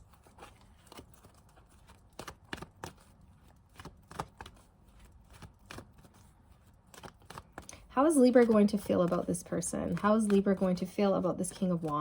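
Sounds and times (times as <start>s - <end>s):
cards shuffling clicks: 0.2s - 10.9s.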